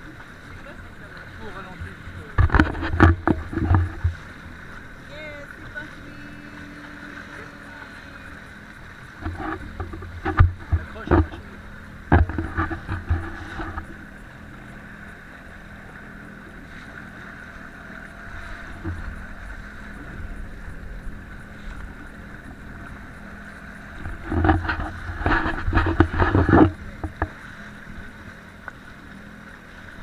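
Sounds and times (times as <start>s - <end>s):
jet ski engine drone: 0.0s - 30.0s.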